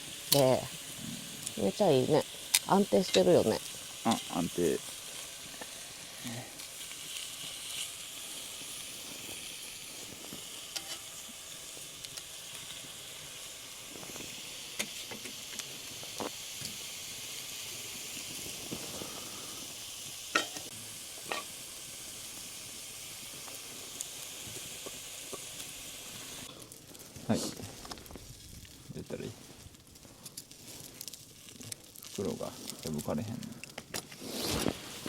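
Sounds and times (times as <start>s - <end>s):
pot sizzling: 0.0s - 35.0s
wood fire crackling: 0.0s - 35.0s.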